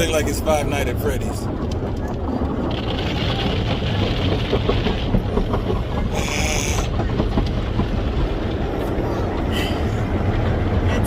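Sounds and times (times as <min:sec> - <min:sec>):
car wash machinery rumble: 0:00.0 - 0:11.0
water spraying on car: 0:00.0 - 0:11.0.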